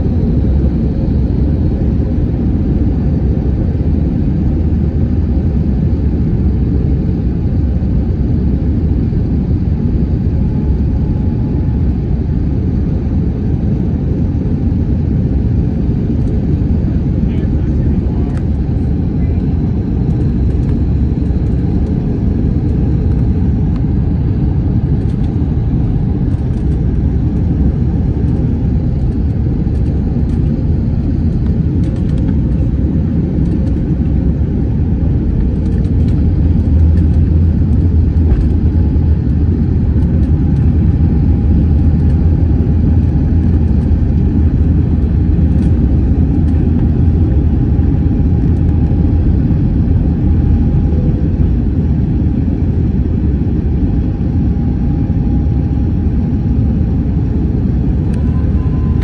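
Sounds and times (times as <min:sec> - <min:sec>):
airliner engine rumble: 0:00.0 - 0:59.0.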